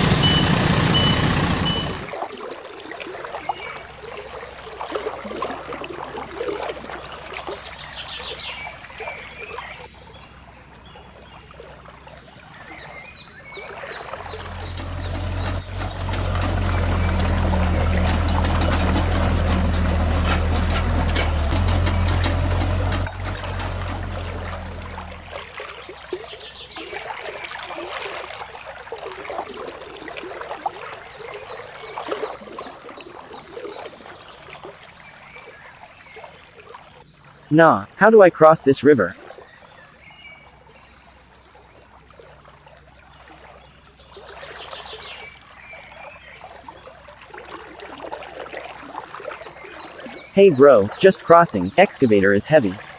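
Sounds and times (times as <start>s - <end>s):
shallow river flowing: 0.0s - 52.9s.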